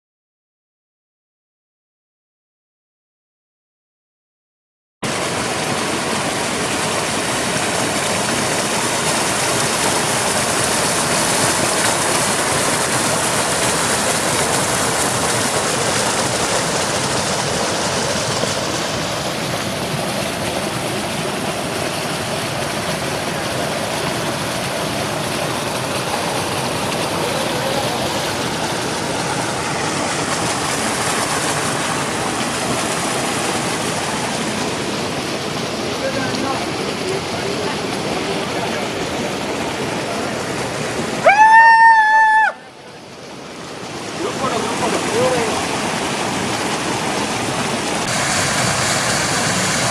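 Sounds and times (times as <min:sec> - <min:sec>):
waterfall roaring: 0:05.0 - 0:49.9.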